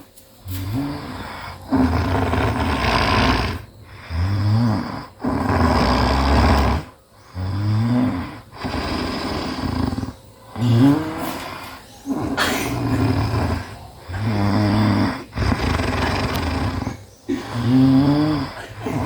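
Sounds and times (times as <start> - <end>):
person snoring heavily: 0.4 - 19.0.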